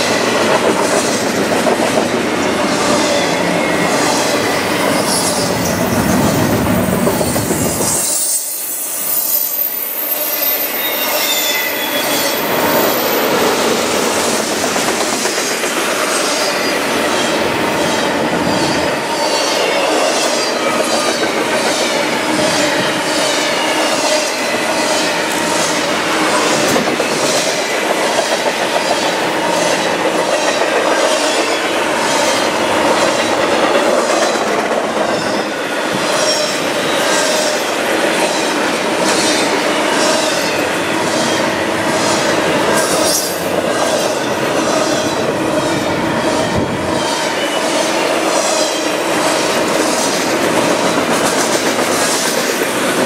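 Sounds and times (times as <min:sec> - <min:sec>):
freight train rolling roar: 0:00.0 - 0:53.0.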